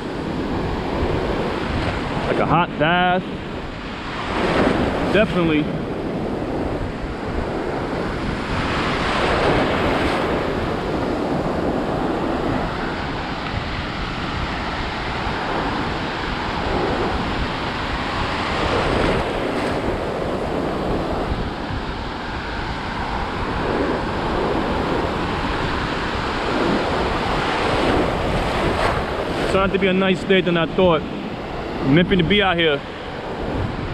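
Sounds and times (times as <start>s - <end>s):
surf breaking: 0.0s - 33.9s
wind buffeting microphone: 0.0s - 33.9s.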